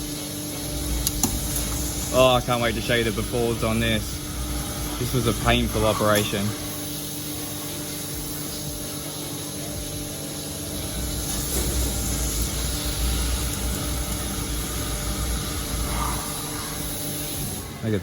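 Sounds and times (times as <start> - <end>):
coolant spray hiss: 0.0 - 18.0
spindle hum: 0.0 - 18.0.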